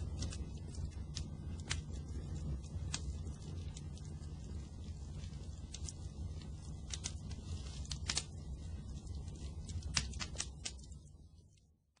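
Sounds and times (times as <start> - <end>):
fire crackling and popping: 0.0 - 11.8
low fire rumble: 0.0 - 12.0.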